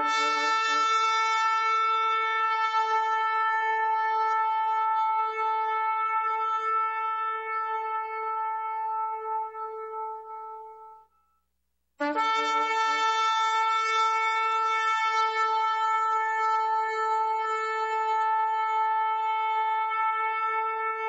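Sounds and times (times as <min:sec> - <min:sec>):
shofar blasts: 0:00.0 - 0:11.2, 0:12.0 - 0:21.0.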